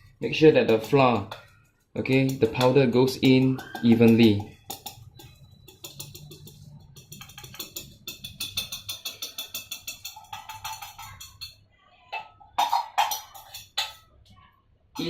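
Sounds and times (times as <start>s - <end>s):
fork beating in a metal pan: 0.0s - 14.1s.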